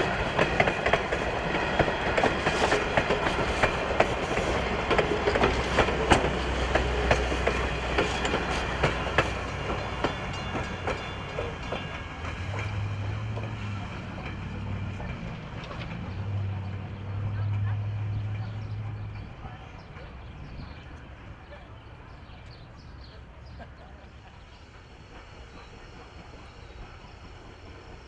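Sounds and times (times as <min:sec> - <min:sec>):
train wheels clicking over rail joints: 0:00.0 - 0:20.8, 0:23.6 - 0:28.0.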